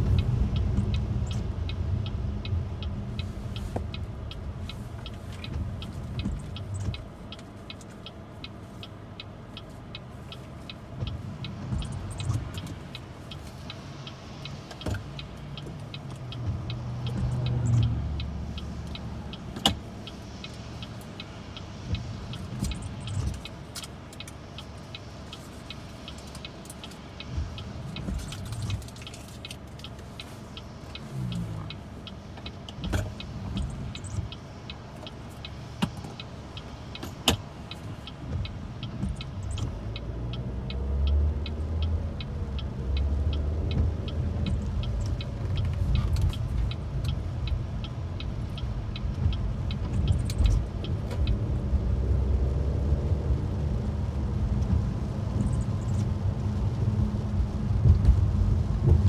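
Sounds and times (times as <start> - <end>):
car engine: 0.0 - 59.0
heavy rain on car: 0.0 - 59.0
wet tyre noise: 0.0 - 59.0
rapid regular ticking: 0.1 - 51.8.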